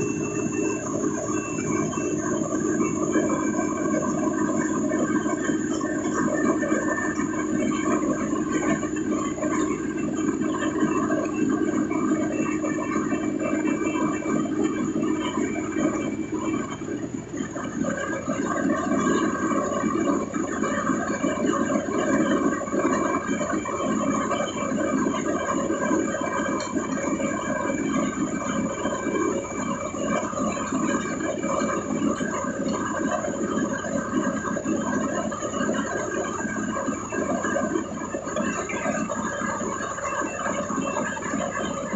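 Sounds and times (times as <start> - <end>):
truck machinery running: 0.0 - 41.9.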